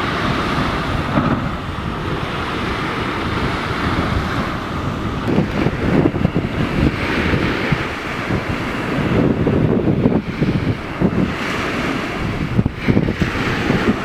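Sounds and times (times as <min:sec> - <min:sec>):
water washing: 0:00.0 - 0:14.0
wind buffeting the microphone: 0:00.0 - 0:14.0.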